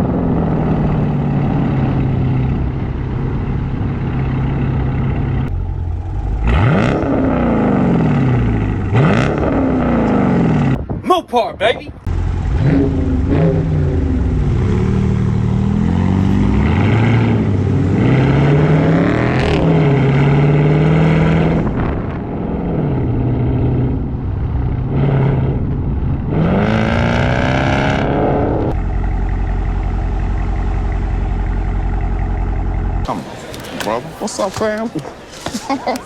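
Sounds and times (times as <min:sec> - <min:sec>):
car engine revving: 0:00.0 - 0:10.8, 0:12.1 - 0:36.0.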